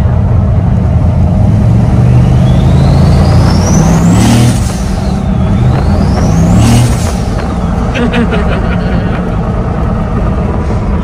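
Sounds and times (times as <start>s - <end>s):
truck engine accelerating hard: 0.0s - 11.0s.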